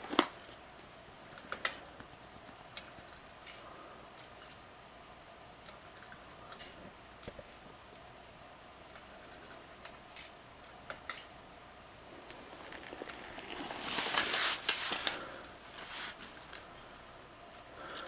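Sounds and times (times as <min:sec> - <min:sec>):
ceiling fan whirring: 0:00.0 - 0:18.0.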